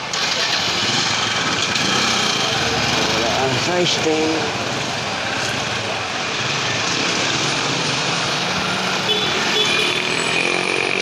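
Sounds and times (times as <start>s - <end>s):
motorcycle engines droning: 0.0s - 11.0s.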